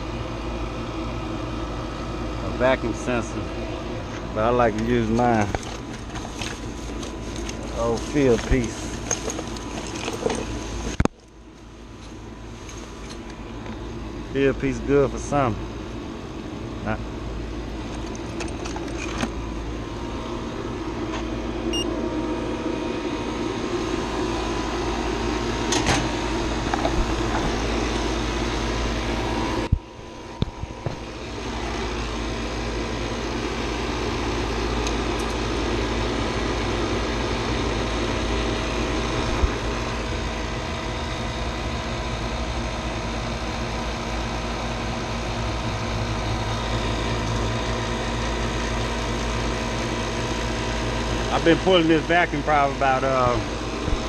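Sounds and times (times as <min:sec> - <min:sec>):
vacuum pump humming: 0:00.0 - 0:54.0.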